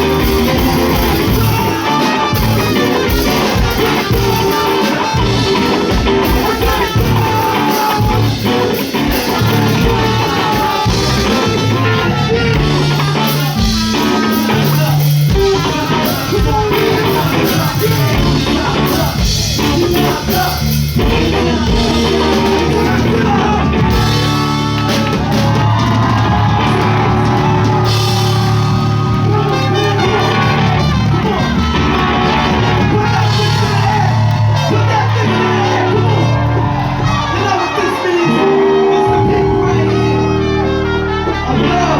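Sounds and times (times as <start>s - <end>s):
live band music: 0.0s - 41.9s.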